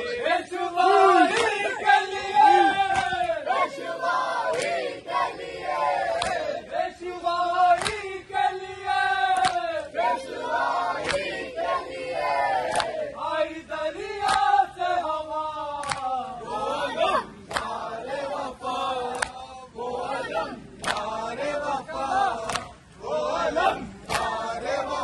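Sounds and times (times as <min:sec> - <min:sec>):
crowd of men chanting: 0:00.0 - 0:25.0.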